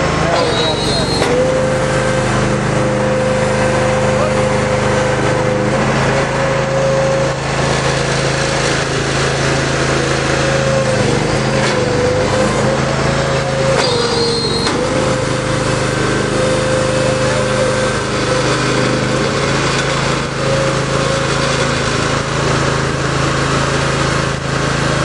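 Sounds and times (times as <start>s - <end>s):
small gasoline engine running: 0.0s - 25.0s
short high whine: 0.2s - 22.2s.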